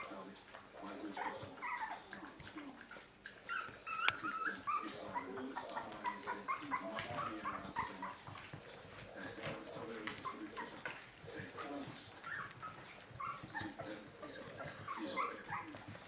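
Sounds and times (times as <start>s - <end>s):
puppies whimpering and squeaking: 0.0s - 16.0s.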